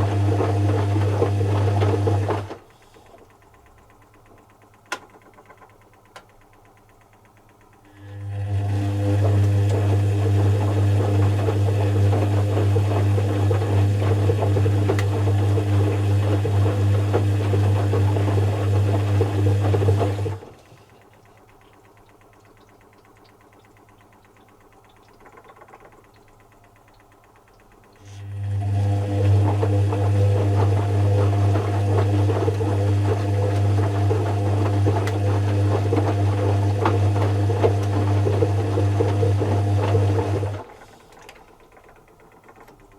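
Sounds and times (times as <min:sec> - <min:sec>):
washing machine running: 0:00.0 - 0:42.9.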